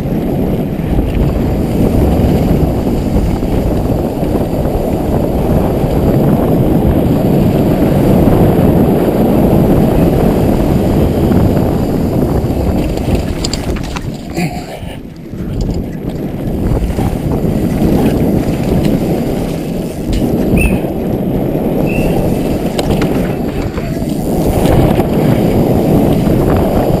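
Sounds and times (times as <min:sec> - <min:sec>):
bike rattling over cobblestones: 0:00.0 - 0:27.0
wind on microphone: 0:00.0 - 0:27.0.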